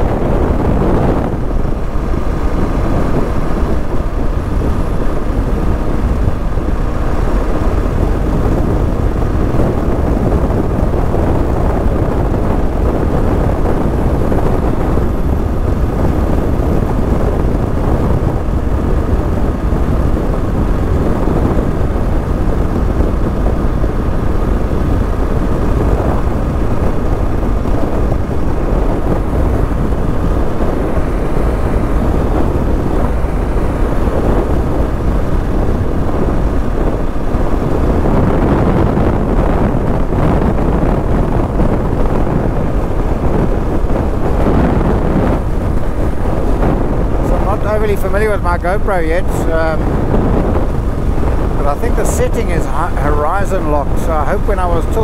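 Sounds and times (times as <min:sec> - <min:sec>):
vehicle driving rumble: 0:00.0 - 0:55.0.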